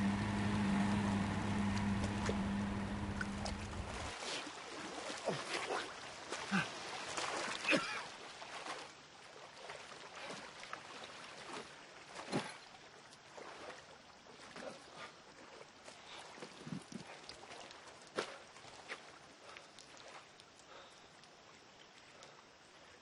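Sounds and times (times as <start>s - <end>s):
lake water splashing: 0.0s - 23.0s.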